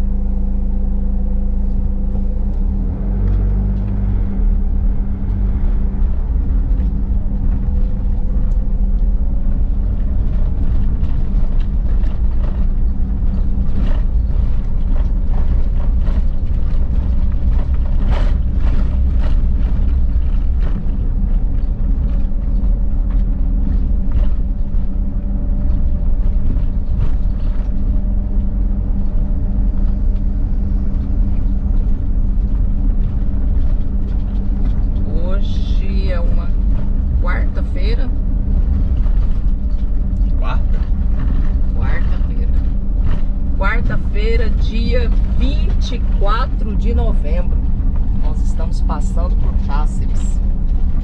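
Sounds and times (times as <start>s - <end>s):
faint whine: 0.0s - 51.0s
vehicle engine and road rumble: 0.0s - 51.0s.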